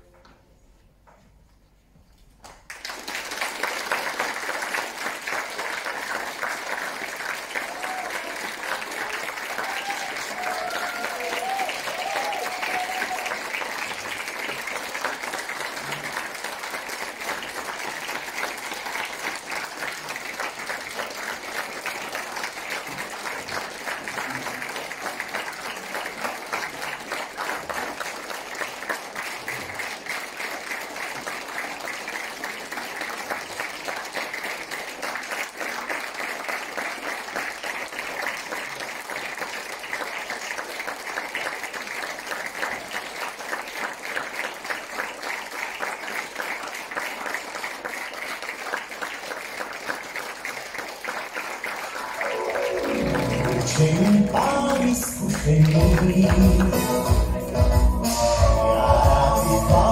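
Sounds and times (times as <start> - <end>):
audience applauding: 2.4 - 59.9.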